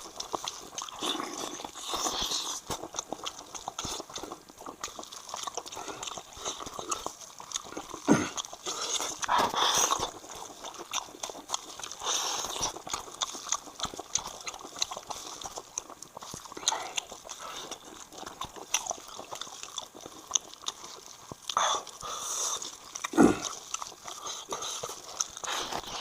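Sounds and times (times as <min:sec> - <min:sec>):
wet chewing mouth sounds: 0:00.0 - 0:26.0.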